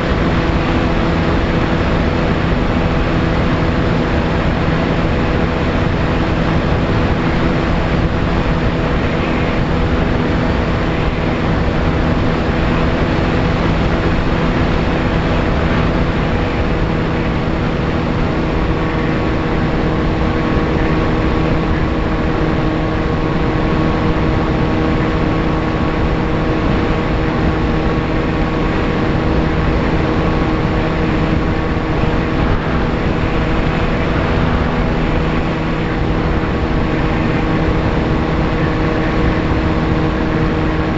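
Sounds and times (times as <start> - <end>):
electric motor and propeller: 0.0 - 40.9
wind noise rushing: 0.0 - 40.9.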